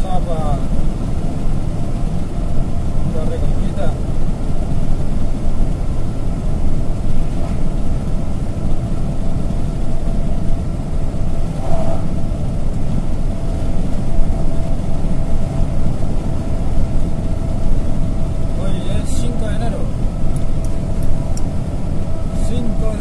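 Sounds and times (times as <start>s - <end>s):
tanker truck passing: 0.0s - 23.0s
truck engine and tyre rumble: 0.0s - 23.0s.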